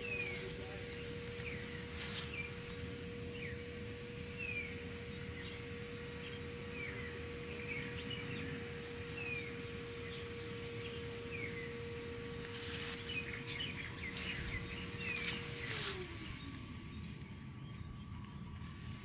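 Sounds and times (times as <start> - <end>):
birds chirping: 0.0 - 19.0
steady hum: 0.0 - 19.0.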